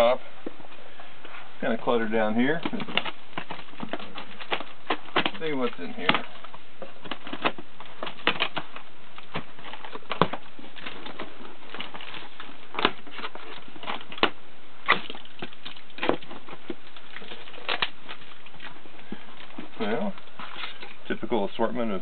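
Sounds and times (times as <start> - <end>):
cardboard flaps rustling: 2.0 - 21.2.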